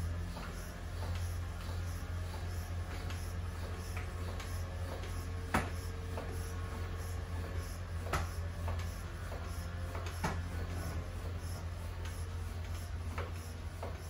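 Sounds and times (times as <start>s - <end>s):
floor pump pumping: 0.0s - 14.0s
steady low hum: 0.0s - 14.0s.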